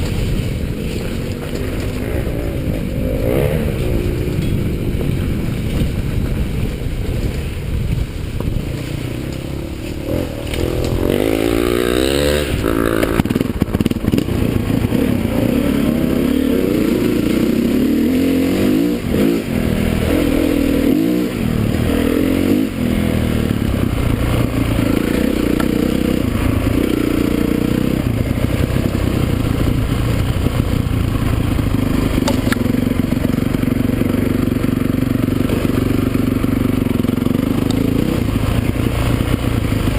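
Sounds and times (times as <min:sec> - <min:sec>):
motocross motorcycle engines revving: 0:00.0 - 0:39.9.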